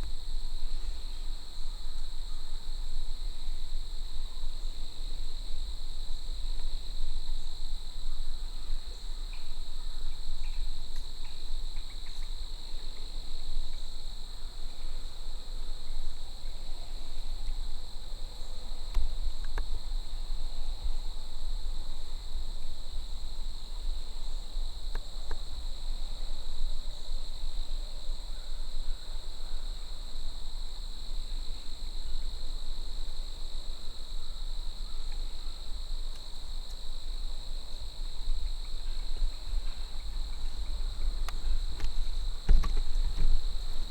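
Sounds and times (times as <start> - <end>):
insect chorus trilling: 0.0 - 43.9.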